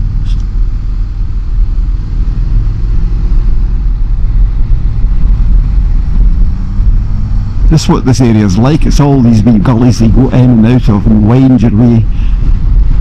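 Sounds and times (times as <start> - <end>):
motorcycle engine running: 0.0 - 13.0
wind and road noise hiss: 0.0 - 13.0.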